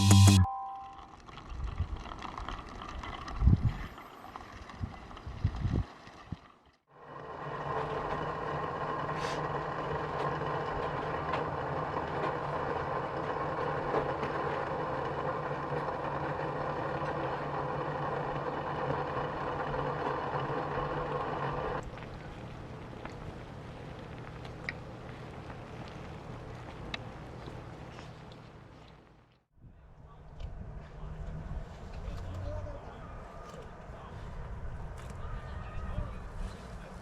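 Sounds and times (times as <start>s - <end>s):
vehicle engine drone: 6.9s - 37.0s.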